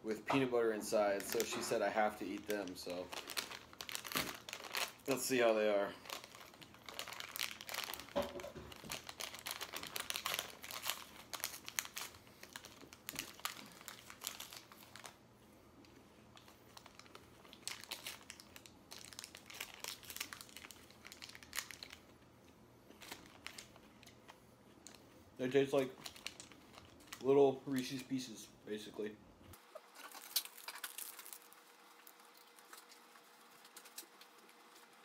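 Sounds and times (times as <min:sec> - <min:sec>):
candy wrapper crinkling: 0:01.0 - 0:15.2, 0:15.8 - 0:22.1, 0:22.9 - 0:25.0, 0:25.6 - 0:28.1, 0:29.8 - 0:35.0.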